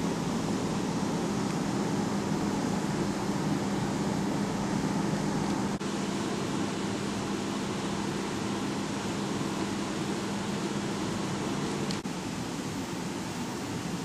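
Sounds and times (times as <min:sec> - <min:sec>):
ventilation hum with hiss: 0:00.0 - 0:14.0.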